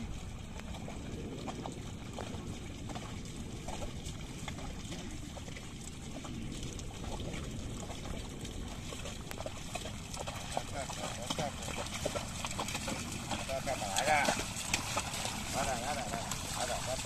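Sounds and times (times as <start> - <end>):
hooves splashing: 0.0 - 17.0
water and mud sloshing: 0.0 - 17.0.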